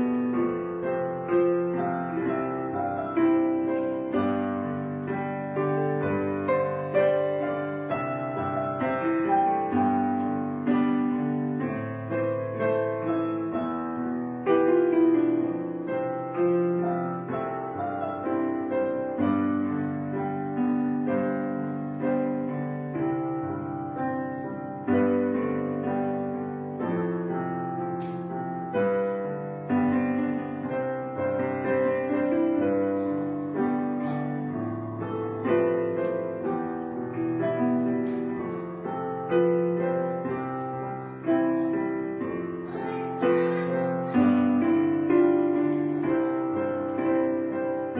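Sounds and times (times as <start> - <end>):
gentle solo piano music: 0.0 - 47.9.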